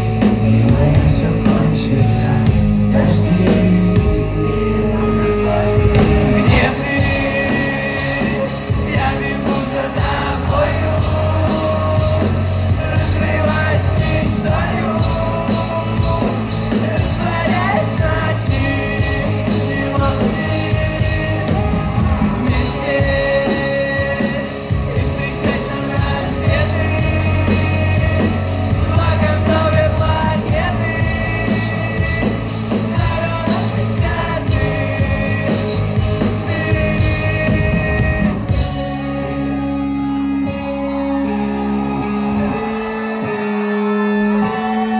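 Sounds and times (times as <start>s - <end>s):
live rock band with singer: 0.0s - 44.9s.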